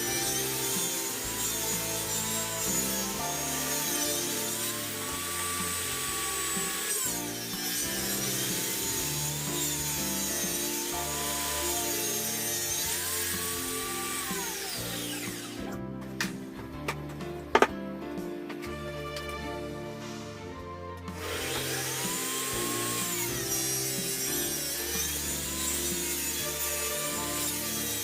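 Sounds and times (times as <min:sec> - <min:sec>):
power tool cutting wood: 0:00.0 - 0:16.4, 0:18.6 - 0:28.0
background music: 0:00.0 - 0:28.0.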